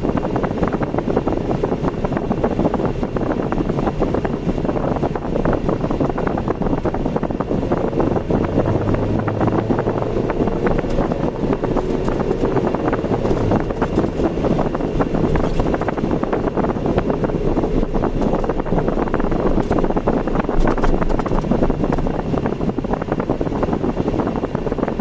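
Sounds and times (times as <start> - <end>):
car driving on road: 0.0 - 25.0
wind buffeting microphone: 0.0 - 25.0.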